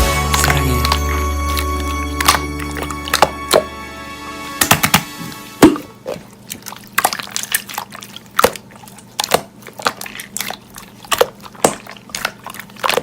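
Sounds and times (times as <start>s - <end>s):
slime squelching by hand: 0.2s - 3.8s, 4.6s - 13.0s.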